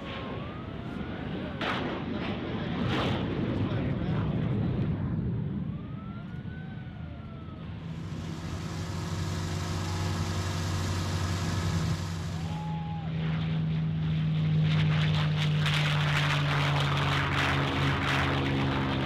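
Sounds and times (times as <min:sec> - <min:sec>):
propeller plane engine at takeoff: 0:00.0 - 0:19.0.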